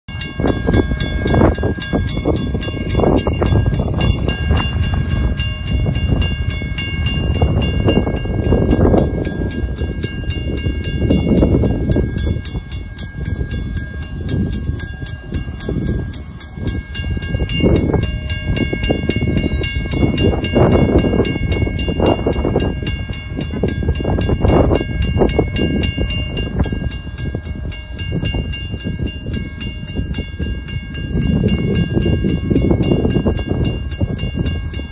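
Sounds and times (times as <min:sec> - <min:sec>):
crossing bell ringing: 0:00.1 - 0:34.9.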